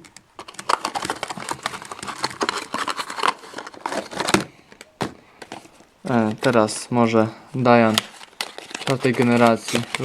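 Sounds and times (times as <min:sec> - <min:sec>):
hard plastic clicking and crinkling: 0:00.0 - 0:10.0.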